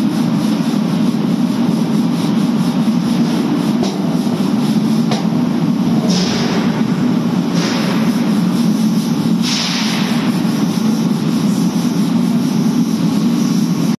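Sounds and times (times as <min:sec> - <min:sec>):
hiss: 0:00.0 - 0:14.0
workshop machinery humming: 0:00.0 - 0:14.0.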